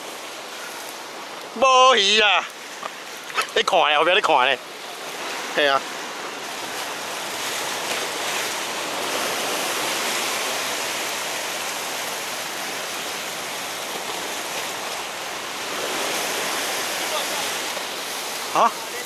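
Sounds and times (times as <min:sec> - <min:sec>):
surf washing against rocks: 0:00.0 - 0:19.0.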